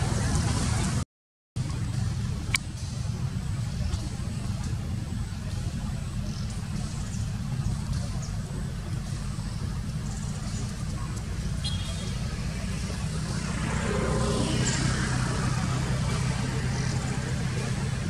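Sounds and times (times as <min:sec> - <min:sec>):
low rumble of outdoor background: 0:01.6 - 0:18.0.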